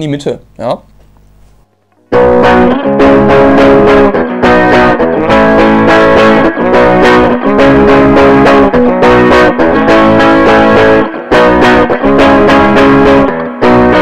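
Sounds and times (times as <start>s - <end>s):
electric guitar strummed chords: 1.9s - 14.0s.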